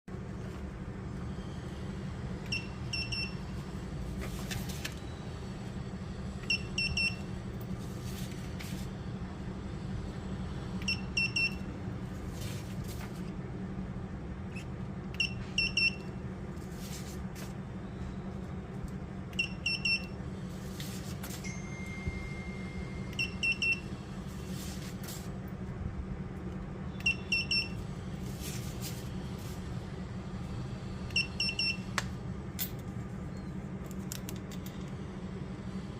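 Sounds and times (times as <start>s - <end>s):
printing machine low hum: 0.1s - 35.9s.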